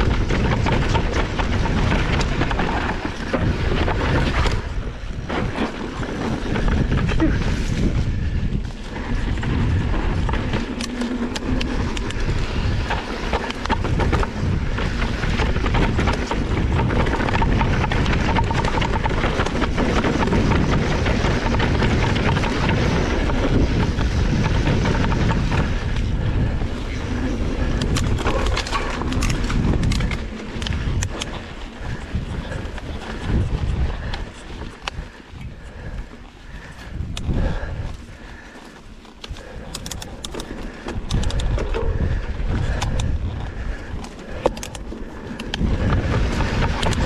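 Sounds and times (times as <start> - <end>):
bike clattering and rattling: 0.0 - 47.0
wind rush on microphone: 0.0 - 47.0.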